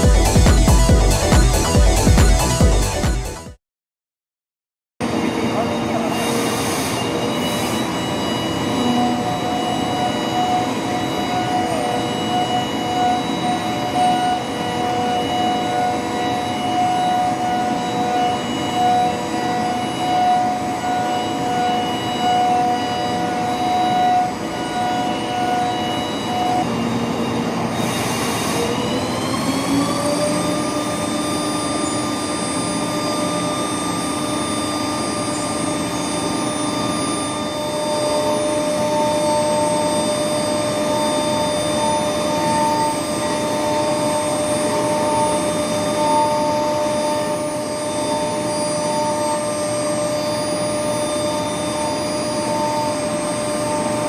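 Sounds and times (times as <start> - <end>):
pulsing tone: 0.0 - 3.5, 5.0 - 54.0
machine tool spindle whine: 5.0 - 54.0.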